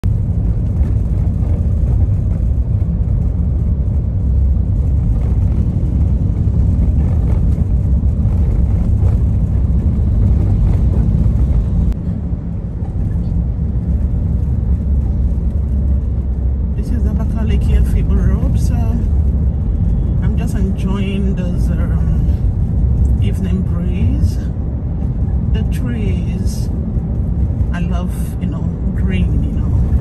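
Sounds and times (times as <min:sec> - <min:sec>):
car interior road rumble: 0:00.0 - 0:30.0.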